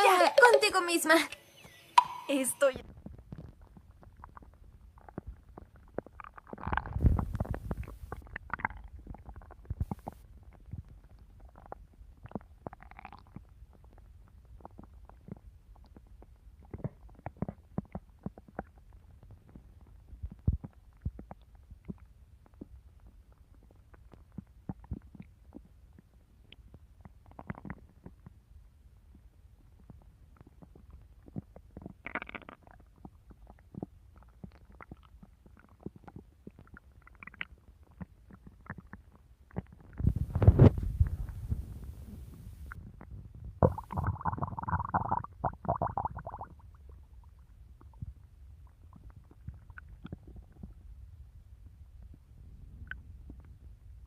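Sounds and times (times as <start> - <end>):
stomach growling: 2.8 - 54.0.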